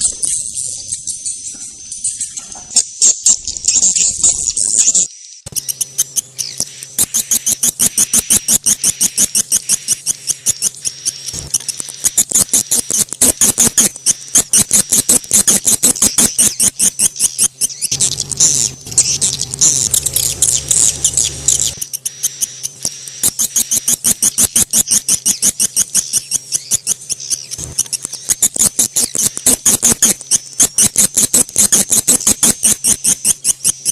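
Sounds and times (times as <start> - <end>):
swiftlets chirping: 0.0 - 33.9.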